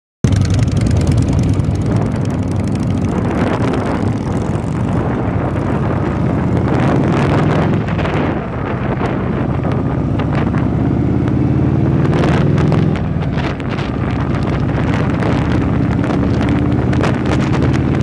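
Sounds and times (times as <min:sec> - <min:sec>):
motorcycle engine rumbling: 0:00.2 - 0:18.0
wind on microphone: 0:00.8 - 0:18.0.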